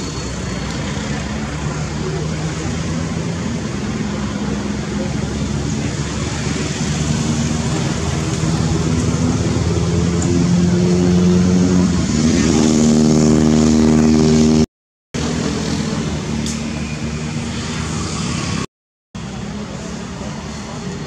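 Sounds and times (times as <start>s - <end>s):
rushing noise: 0.0s - 18.7s.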